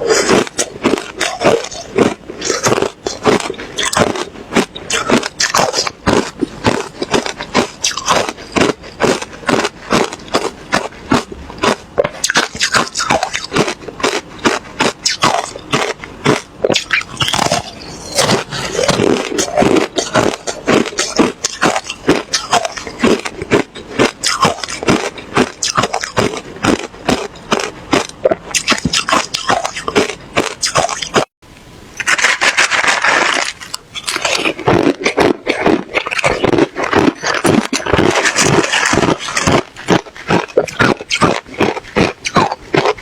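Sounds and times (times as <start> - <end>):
ice crunching while chewed: 0.0 - 31.3, 32.0 - 43.0.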